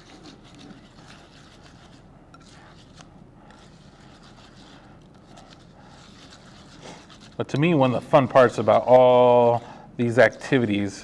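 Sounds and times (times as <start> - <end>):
spoon scraping birdseed in bowl: 0.0 - 9.6.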